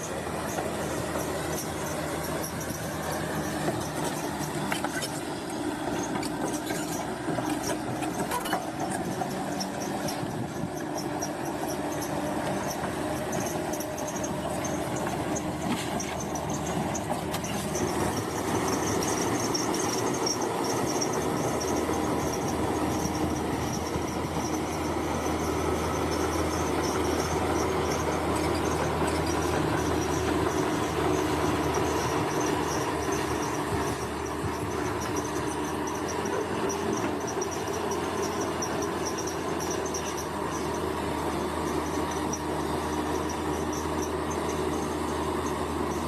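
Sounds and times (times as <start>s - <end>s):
bulldozer diesel engine: 0.0s - 46.0s
crawler tracks squealing: 0.0s - 46.0s.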